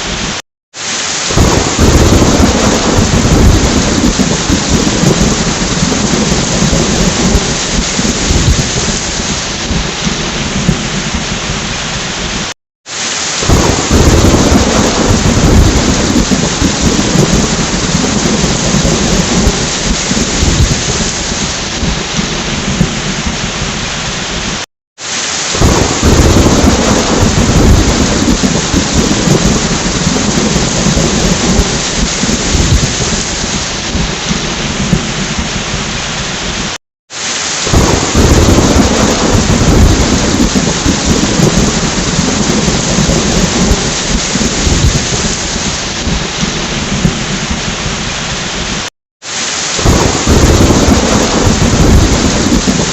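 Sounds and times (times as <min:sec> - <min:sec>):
steady rain: 0:00.0 - 0:52.9
thunder rumbling: 0:01.2 - 0:12.5, 0:13.4 - 0:24.6, 0:25.5 - 0:36.7, 0:37.6 - 0:48.8, 0:49.7 - 0:52.9.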